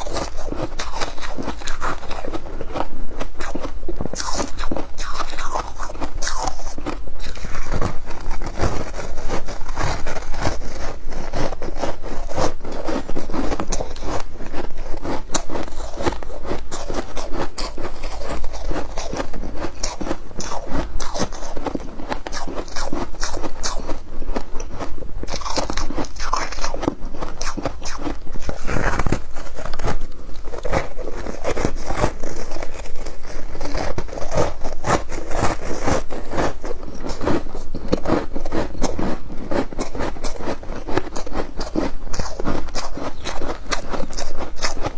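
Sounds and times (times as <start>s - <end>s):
ice crunching being chewed: 0.0s - 44.9s.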